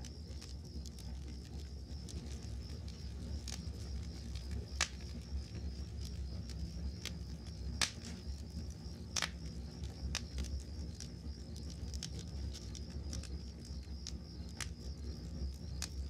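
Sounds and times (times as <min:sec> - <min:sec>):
campfire crackling and popping: 0:00.0 - 0:16.0
crickets chirping: 0:00.0 - 0:16.0.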